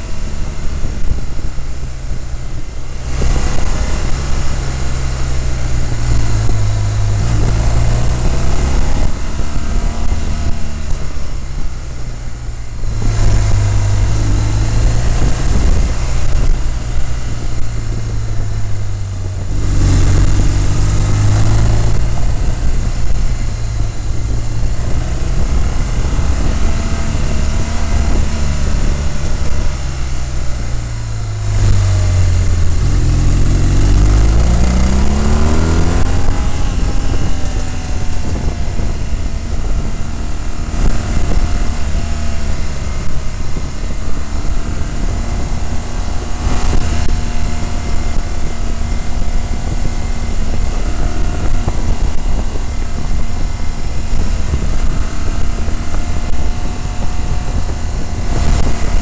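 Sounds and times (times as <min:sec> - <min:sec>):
steady rushing noise: 0:00.0 - 0:59.0
vehicle engine accelerating: 0:00.0 - 0:59.0.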